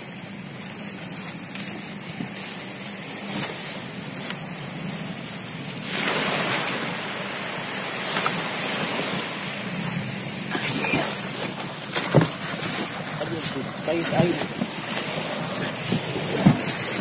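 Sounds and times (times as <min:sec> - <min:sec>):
boat motor running: 0:00.0 - 0:17.0
rush of wind and water: 0:00.0 - 0:17.0.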